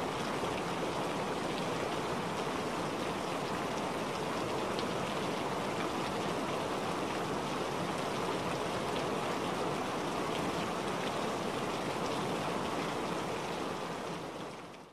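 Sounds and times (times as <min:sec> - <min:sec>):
rushing water: 0:00.0 - 0:14.9.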